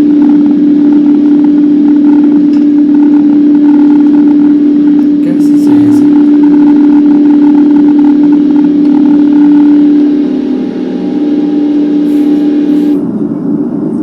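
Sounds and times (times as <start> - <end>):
jet engine drone in cabin: 0.0 - 14.0.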